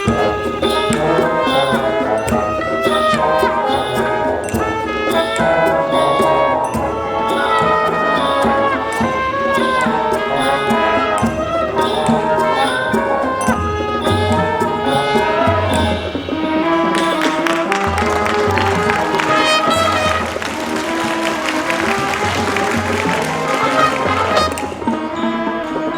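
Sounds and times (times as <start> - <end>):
brass and woodwinds melody: 0.0 - 25.9
percussion hits: 0.0 - 25.9.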